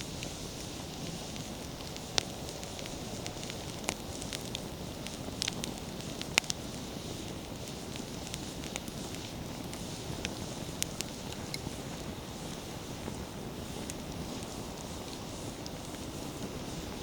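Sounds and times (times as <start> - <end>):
firewood crackling and popping: 0.0 - 17.0
low rush of flame: 0.0 - 17.0.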